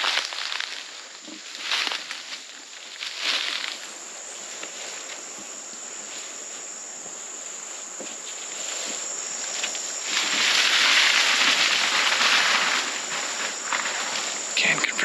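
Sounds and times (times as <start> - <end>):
high-pitched insect chorus: 0.0 - 15.0
loud rustling hiss: 0.0 - 15.0
soft footsteps in grass: 0.0 - 15.0.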